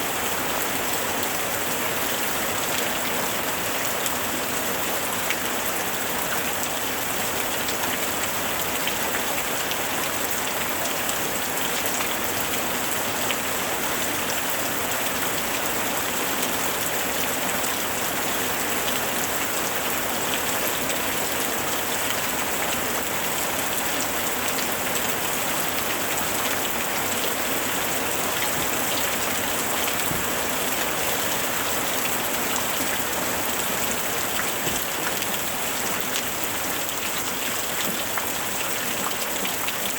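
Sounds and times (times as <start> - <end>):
rain pattering: 0.1 - 39.9.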